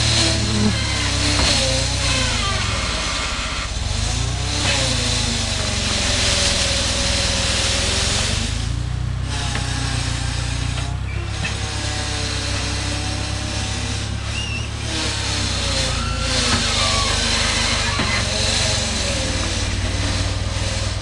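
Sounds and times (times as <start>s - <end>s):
skid steer engine under load: 0.0s - 21.0s.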